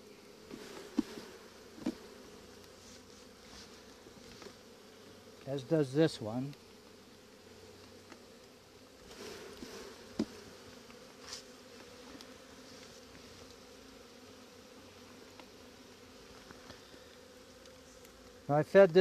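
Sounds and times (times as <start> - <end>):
honeybees humming: 0.0 - 19.0.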